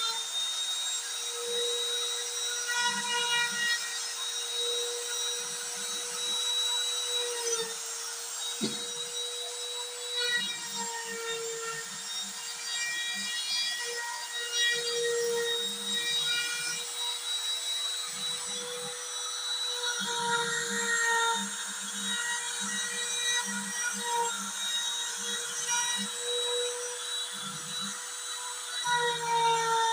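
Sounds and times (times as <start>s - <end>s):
router spindle high whine: 0.0s - 29.9s.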